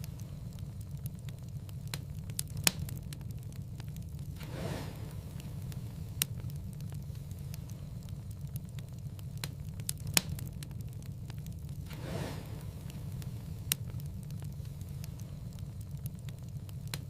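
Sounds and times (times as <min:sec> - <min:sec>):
low flame rumble: 0:00.0 - 0:17.0
soft hiss: 0:00.0 - 0:17.0
wood fire crackling: 0:00.0 - 0:17.0.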